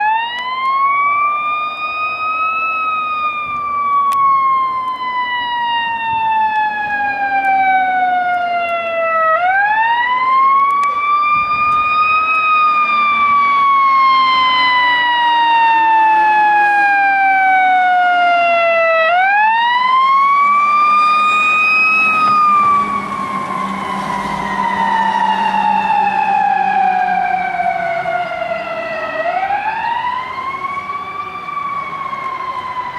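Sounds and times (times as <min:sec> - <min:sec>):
fire engine siren wailing: 0:00.0 - 0:32.9.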